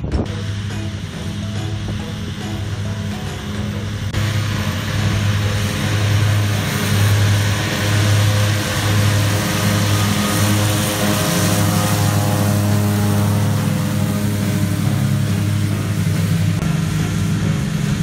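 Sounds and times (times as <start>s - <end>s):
disc mowers cutting grass: 0.0s - 18.0s
tractor diesel engine running: 0.0s - 18.0s.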